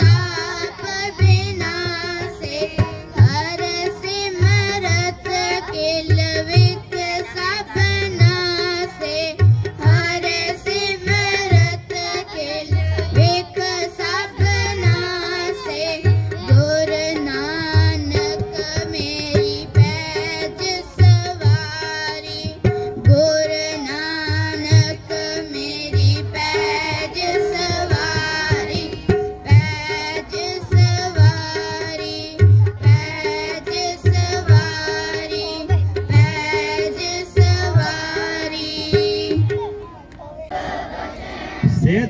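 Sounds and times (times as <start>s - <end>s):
children singing: 0.0s - 39.7s, 40.4s - 41.7s
harmonium melody: 0.0s - 40.2s
tabla beats: 0.0s - 42.0s.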